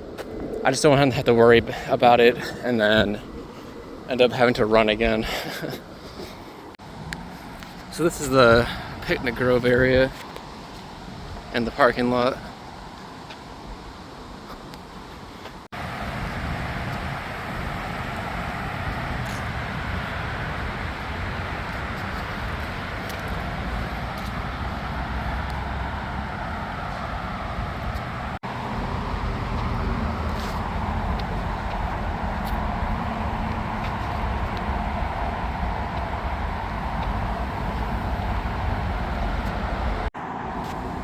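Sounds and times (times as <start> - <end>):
outdoor background roar: 0.0 - 41.0.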